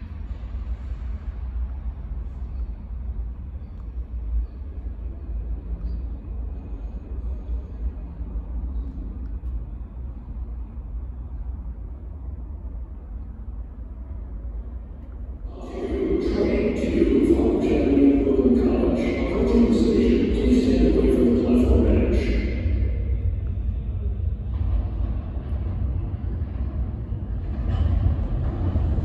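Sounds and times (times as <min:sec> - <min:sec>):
subway train rumbling: 0:00.0 - 0:29.0.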